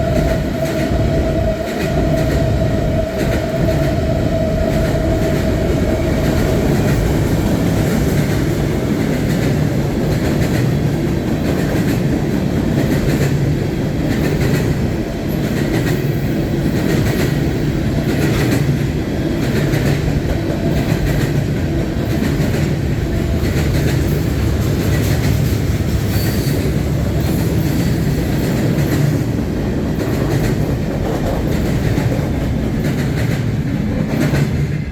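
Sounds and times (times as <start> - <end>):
rumble of railcars: 0.0 - 34.9.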